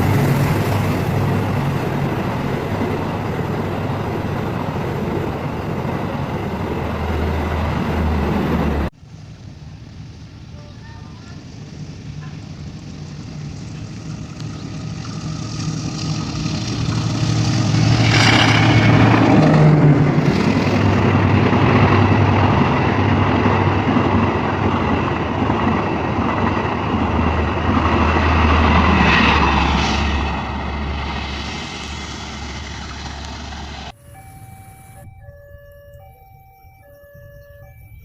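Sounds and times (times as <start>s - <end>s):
diesel train passing: 0.0s - 38.0s.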